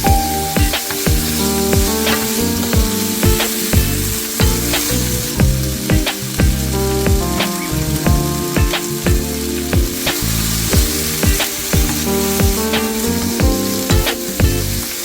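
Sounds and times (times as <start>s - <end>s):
background music: 0.0s - 15.0s
food sizzling in a pan: 0.0s - 15.0s.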